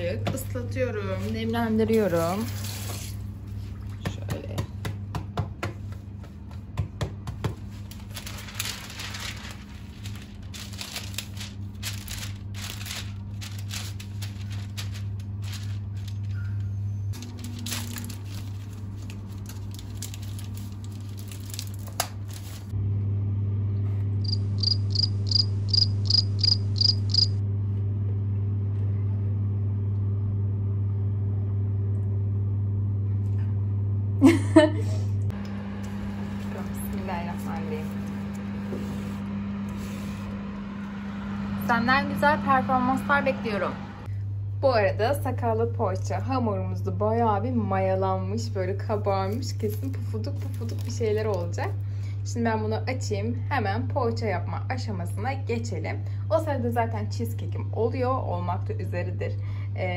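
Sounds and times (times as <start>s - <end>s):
appliance hum: 0.0s - 59.9s.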